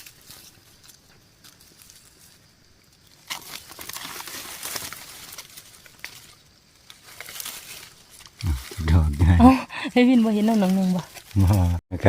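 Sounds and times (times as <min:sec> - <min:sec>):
leaf litter rustling and crackling: 0:00.0 - 0:11.8.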